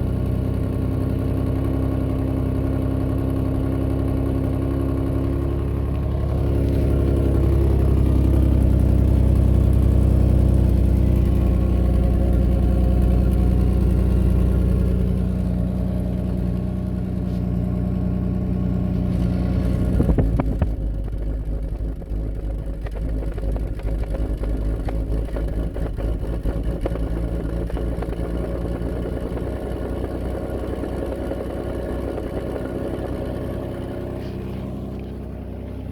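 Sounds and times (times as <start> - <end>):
car engine and exhaust running: 0.0 - 35.9.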